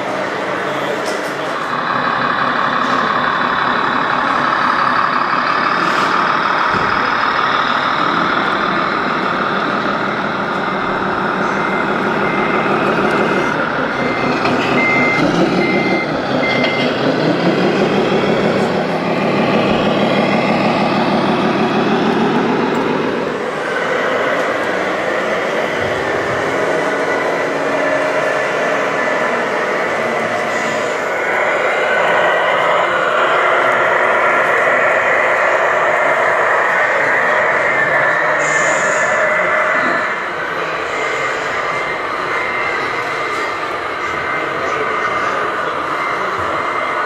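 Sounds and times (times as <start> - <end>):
truck engine running: 0.0 - 47.0
reversing alarm beeping: 1.5 - 47.0.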